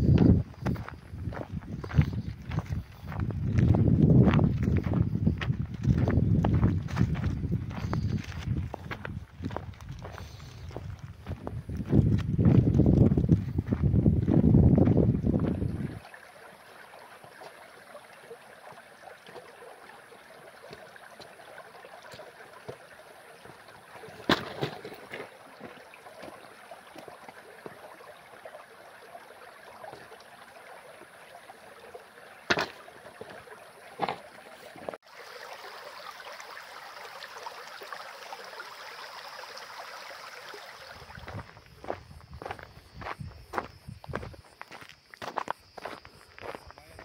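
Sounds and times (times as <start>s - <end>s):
creek water flowing: 0.0s - 47.0s.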